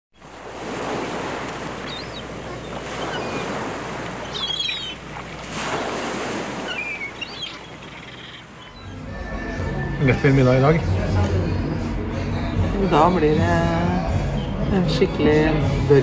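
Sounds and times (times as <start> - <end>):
sea waves washing ashore: 0.2 - 16.0.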